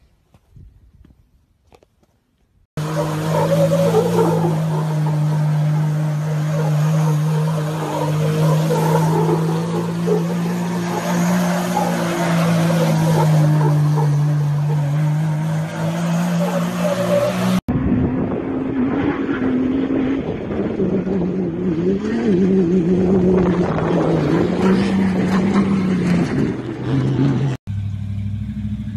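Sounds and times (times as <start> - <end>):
engine revving: 2.8 - 28.9
off-road vehicle engine running: 2.8 - 28.9.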